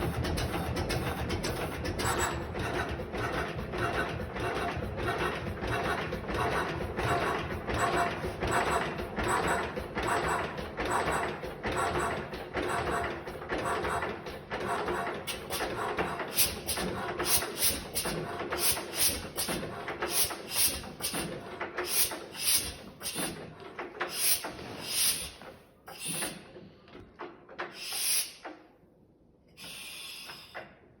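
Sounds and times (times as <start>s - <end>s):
stationary engine running: 0.0s - 26.6s.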